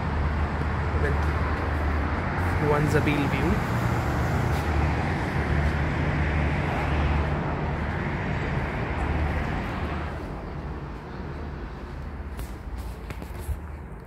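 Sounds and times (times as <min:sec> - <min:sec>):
city road traffic hum: 0:00.0 - 0:14.0.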